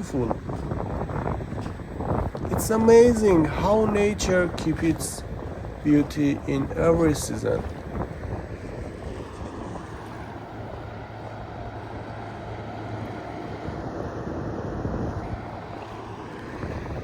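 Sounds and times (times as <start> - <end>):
river waves washing against bank: 0.0 - 17.0
steady low hum: 0.0 - 17.0
wind buffeting microphone: 0.0 - 17.0.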